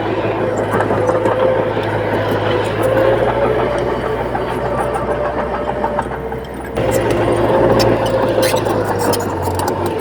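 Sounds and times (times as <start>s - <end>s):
heavy diesel engine running: 0.0s - 10.0s.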